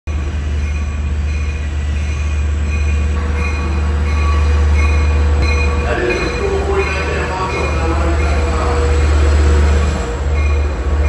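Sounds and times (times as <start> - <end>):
locomotive rumbling: 0.1 - 11.0.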